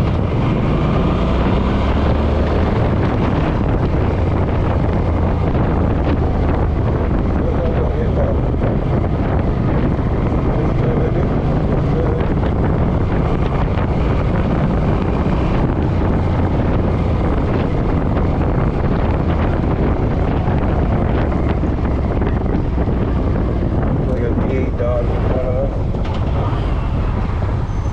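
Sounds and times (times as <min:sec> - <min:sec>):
motorcycle engine drone: 0:00.0 - 0:27.9
wind noise on microphone: 0:00.0 - 0:27.9.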